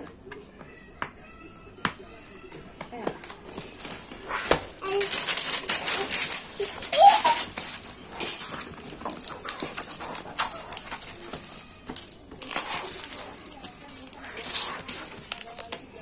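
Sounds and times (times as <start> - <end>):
plastic wrap crinkling: 2.0 - 16.0.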